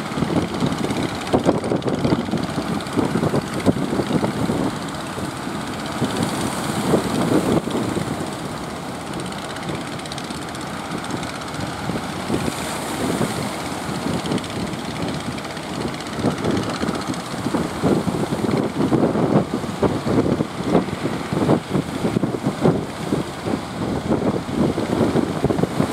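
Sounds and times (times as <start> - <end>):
boat engine running: 0.0 - 25.9
water noise: 0.0 - 25.9
wind: 0.0 - 25.9.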